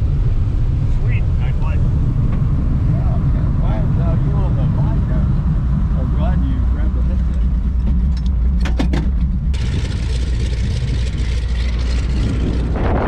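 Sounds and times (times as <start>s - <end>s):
propeller engine humming: 0.0s - 13.0s.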